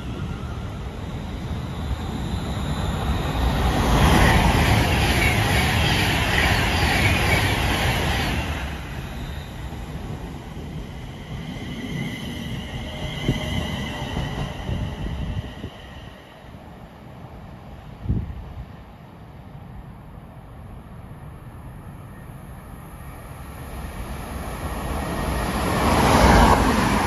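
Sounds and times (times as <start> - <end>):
electric train wheels rumbling on rails: 0.0 - 18.5, 21.2 - 27.0.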